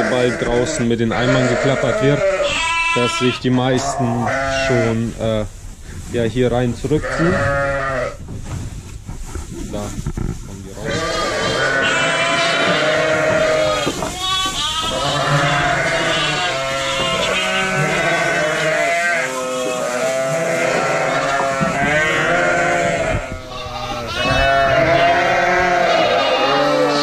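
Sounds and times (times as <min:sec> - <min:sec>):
sheep and lambs bleating: 0:00.0 - 0:05.1, 0:06.9 - 0:08.2, 0:10.8 - 0:27.0.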